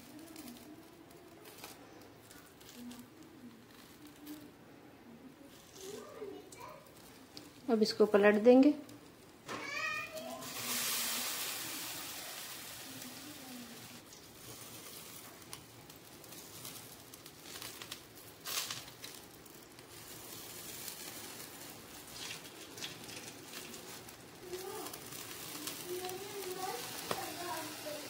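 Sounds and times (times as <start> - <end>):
meat sizzling on a grill: 0.0 - 4.4, 5.5 - 28.0
charcoal crackling: 0.0 - 28.0.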